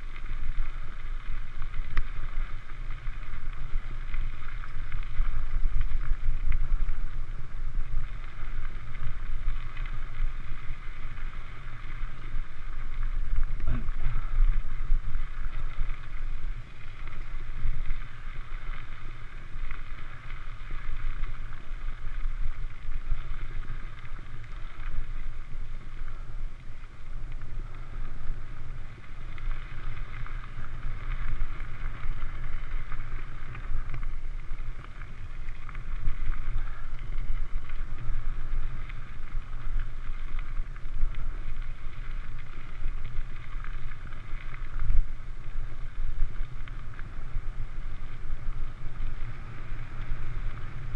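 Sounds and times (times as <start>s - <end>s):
bike tyres rumbling on gravel: 0.0s - 50.9s
wind noise on microphone: 0.0s - 50.9s.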